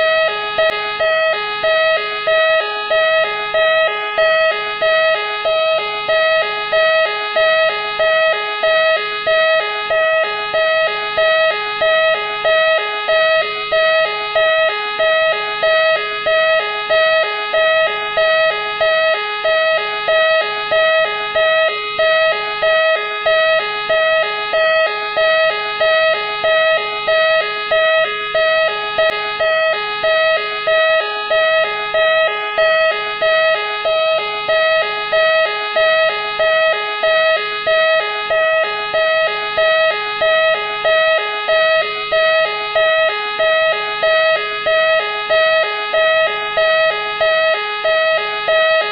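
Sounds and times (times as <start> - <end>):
police siren wailing: 0.0 - 48.9.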